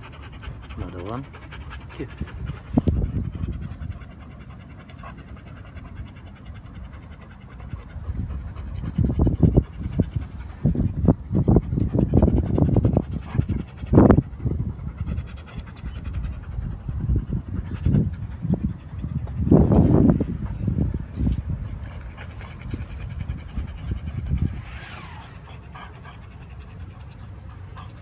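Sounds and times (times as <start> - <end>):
dog panting: 0.0 - 28.0.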